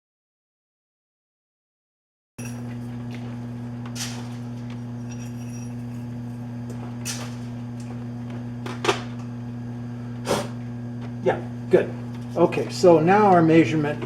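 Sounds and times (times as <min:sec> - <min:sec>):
electrical hum: 0:02.4 - 0:14.0.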